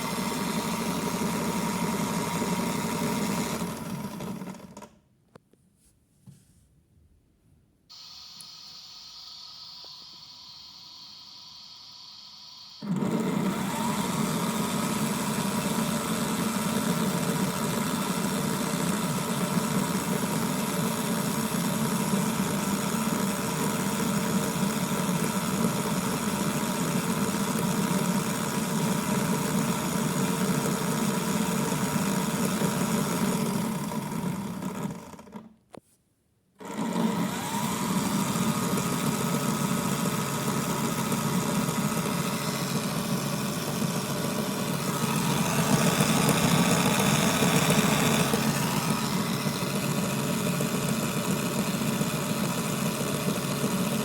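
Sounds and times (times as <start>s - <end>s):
toy washing machine motor whining: 0.0s - 4.9s, 7.9s - 35.4s, 36.6s - 54.0s.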